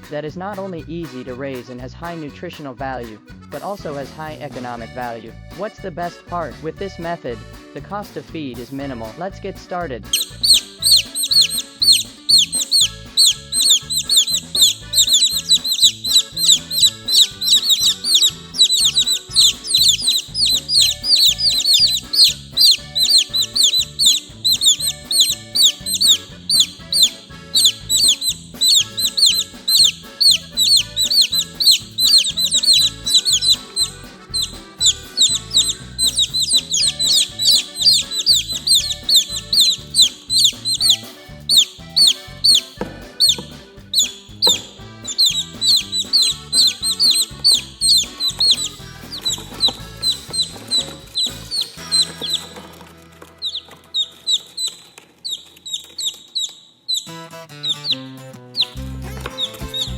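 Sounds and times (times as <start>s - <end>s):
background music: 0.0s - 54.7s, 57.0s - 59.9s
chicks peeping: 10.0s - 59.9s.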